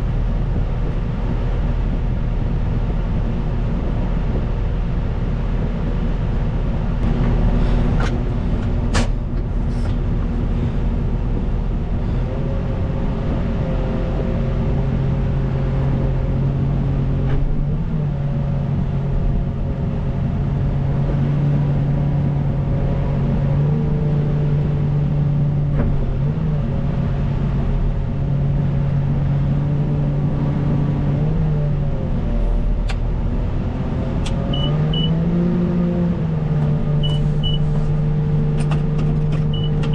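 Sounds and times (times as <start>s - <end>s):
wheel loader diesel engine: 0.0s - 39.9s.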